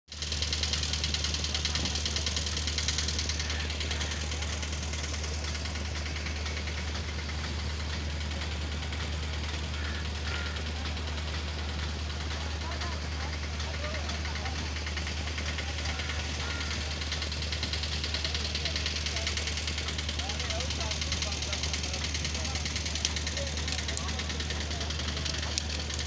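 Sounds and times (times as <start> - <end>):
fast high-pitched rattle: 0.1 - 26.0
vehicle engine idling: 0.1 - 26.0.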